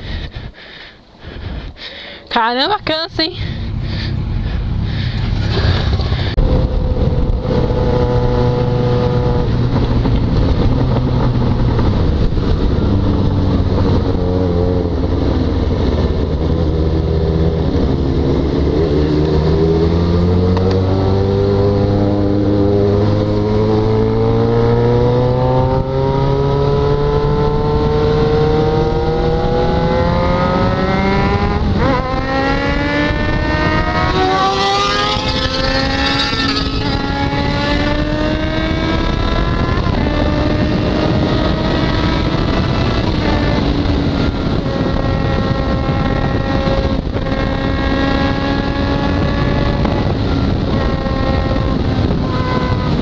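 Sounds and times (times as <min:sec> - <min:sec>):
wind rushing over microphone: 0:00.0 - 0:53.0
motorcycle engine accelerating: 0:02.3 - 0:53.0.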